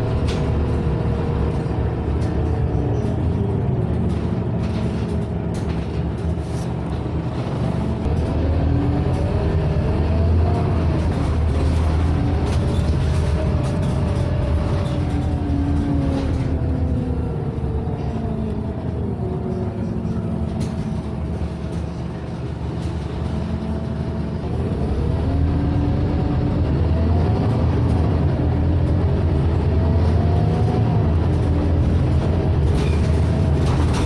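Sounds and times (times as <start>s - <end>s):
bus engine whine: 0.0s - 34.0s
low rumble of engine and ventilation: 0.0s - 34.0s.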